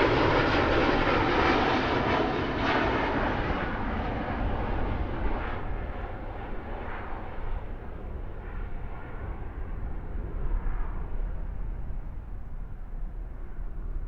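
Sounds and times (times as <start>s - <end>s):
airliner jet engine rush: 0.0s - 14.0s.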